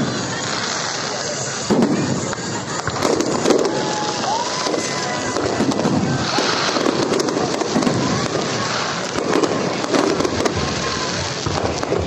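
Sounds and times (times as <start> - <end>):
firework shell bursts: 0.0 - 12.0
fireworks crackling: 0.0 - 12.0.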